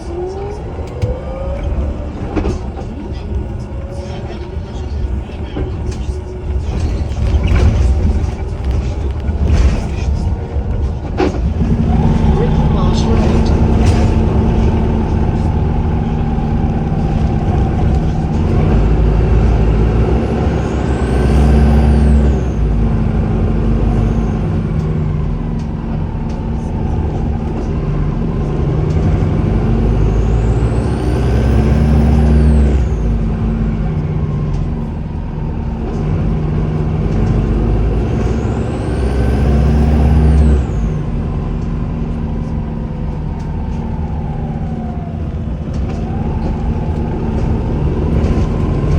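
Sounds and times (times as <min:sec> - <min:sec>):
bus diesel engine drone: 0:00.0 - 0:48.9.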